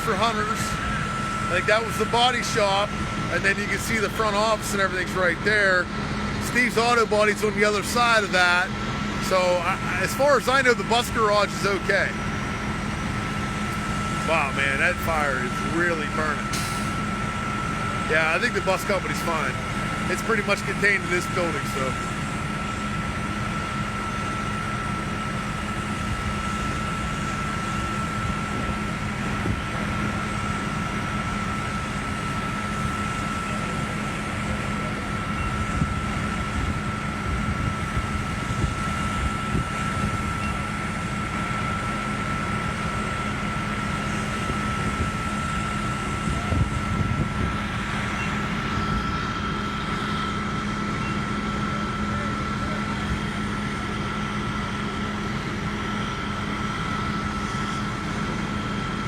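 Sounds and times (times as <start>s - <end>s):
fire engine droning: 0.0s - 59.0s
pump whining: 0.0s - 59.0s.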